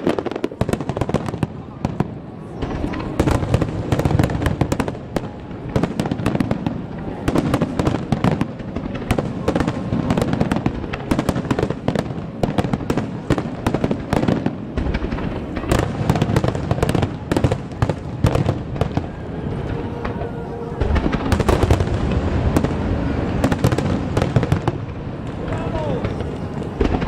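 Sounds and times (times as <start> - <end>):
firework crackling: 0.0 - 27.0.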